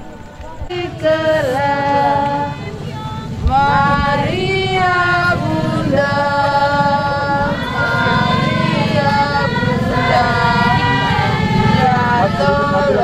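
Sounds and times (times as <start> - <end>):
women and children singing hymn: 0.0 - 13.0.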